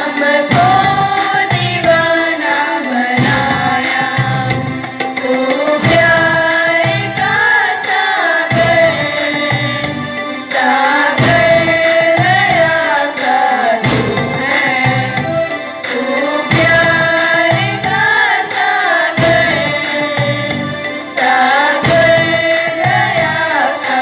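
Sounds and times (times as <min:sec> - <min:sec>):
person singing over music: 0:00.0 - 0:24.0
steady percussive beat: 0:00.0 - 0:24.0.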